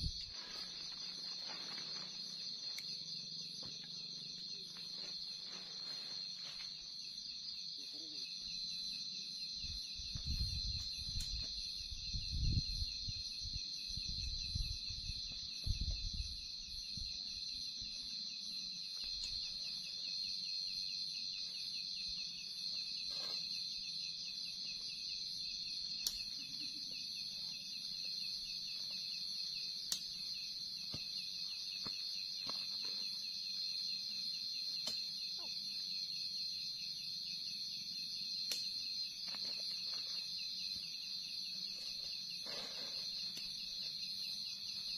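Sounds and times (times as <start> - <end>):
night insects trilling: 0.0 - 44.9.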